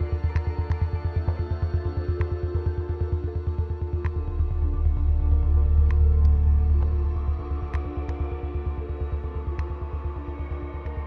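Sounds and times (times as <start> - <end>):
ambient music with bass drone: 0.0 - 11.0.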